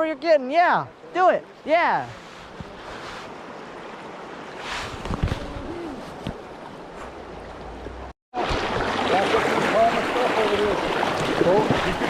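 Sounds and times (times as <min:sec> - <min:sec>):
river water rushing: 0:00.5 - 0:12.0.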